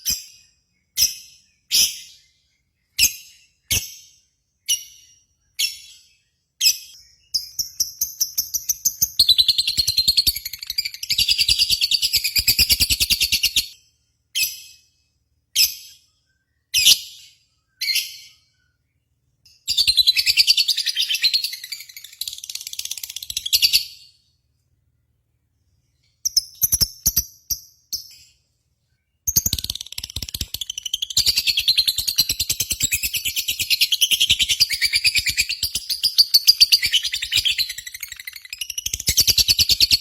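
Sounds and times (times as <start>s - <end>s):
bird chirps: 0.0s - 40.0s.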